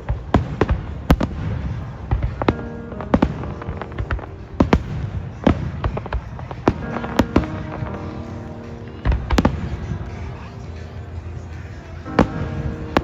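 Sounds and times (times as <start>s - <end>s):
fireworks banging: 0.0s - 13.0s
music playing: 0.0s - 13.0s.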